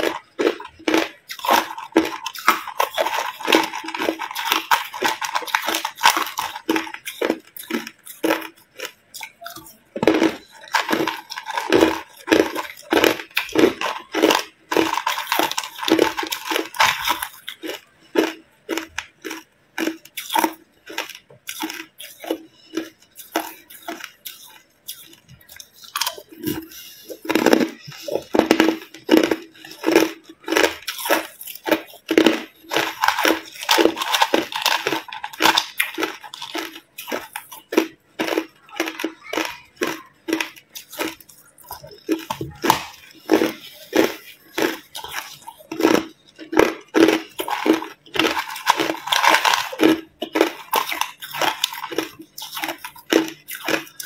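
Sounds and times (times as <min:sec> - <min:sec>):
person crunching ice: 0:00.0 - 0:54.0.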